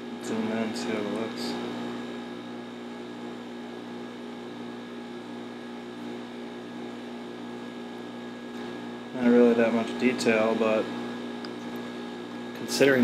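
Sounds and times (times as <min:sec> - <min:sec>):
equipment humming: 0:00.0 - 0:13.0.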